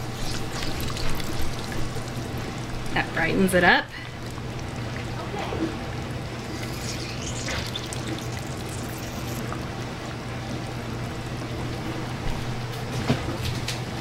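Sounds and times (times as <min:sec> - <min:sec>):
lemon juice trickling: 0:00.0 - 0:11.6
steady low hum: 0:00.0 - 0:13.1.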